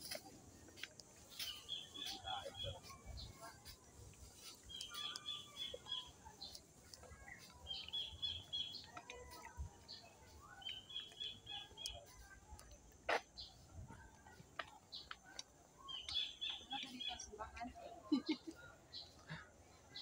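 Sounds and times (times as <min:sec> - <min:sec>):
bird chirping: 0:01.2 - 0:17.3.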